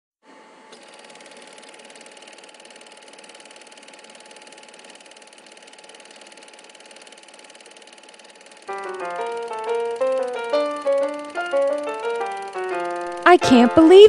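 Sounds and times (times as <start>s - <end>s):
film projector clatter: 0.7s - 14.0s.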